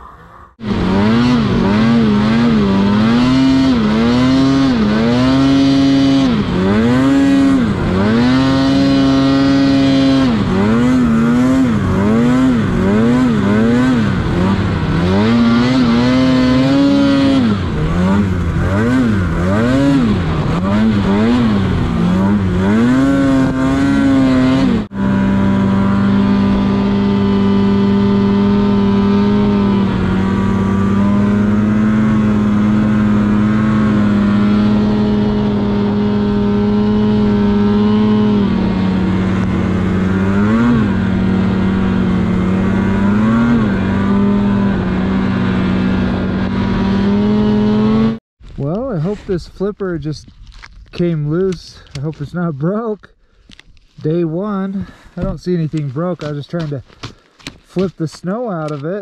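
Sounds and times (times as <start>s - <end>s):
snowmobile engine revving: 0.0s - 50.2s.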